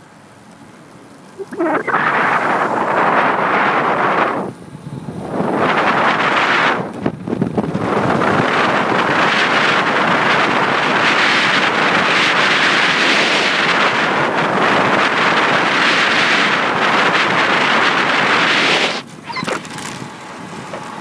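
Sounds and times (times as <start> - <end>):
wind rush over microphone: 1.4 - 21.0.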